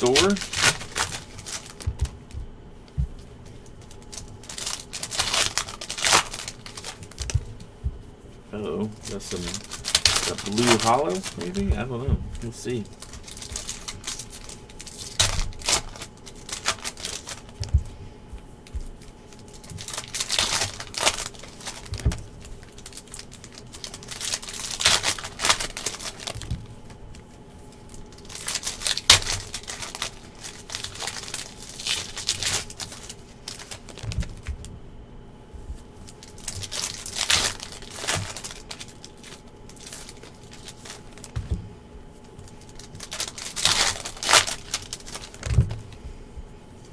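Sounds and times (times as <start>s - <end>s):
foil packs crinkling: 0.0s - 7.7s, 8.4s - 34.8s, 35.8s - 46.2s
cards being handled: 0.0s - 8.0s, 8.8s - 34.7s, 35.7s - 46.1s.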